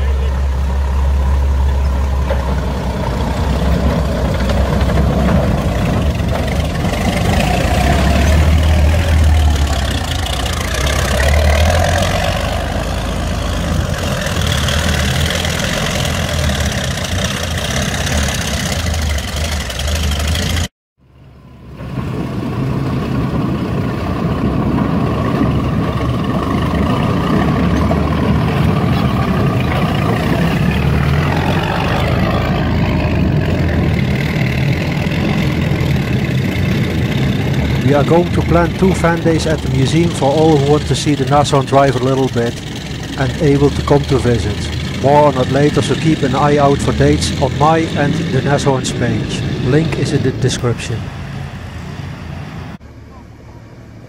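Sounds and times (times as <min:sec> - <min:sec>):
tracked vehicle engine rumbling: 0:00.0 - 0:54.0.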